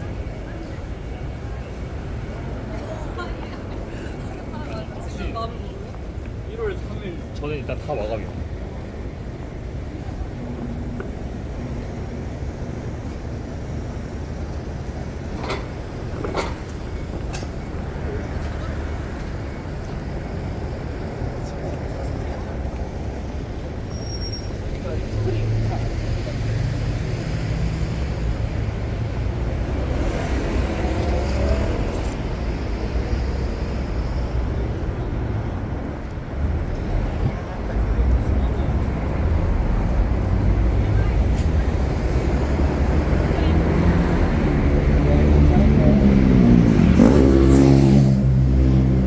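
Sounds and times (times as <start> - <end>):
city street traffic rumble: 0.0 - 49.0
road vehicles passing: 0.0 - 49.0.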